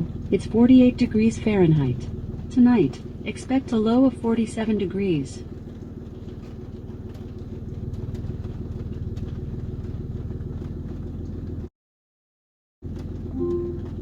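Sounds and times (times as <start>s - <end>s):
car engine hum from inside: 0.0s - 11.7s, 12.8s - 14.0s.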